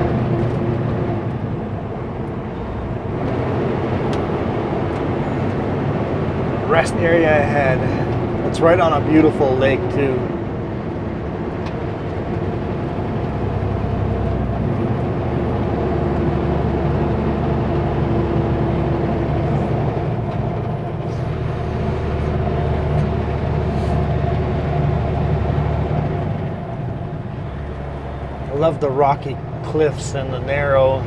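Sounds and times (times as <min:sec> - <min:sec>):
road noise: 0:00.0 - 0:31.0
truck diesel engine rumble: 0:00.0 - 0:31.0.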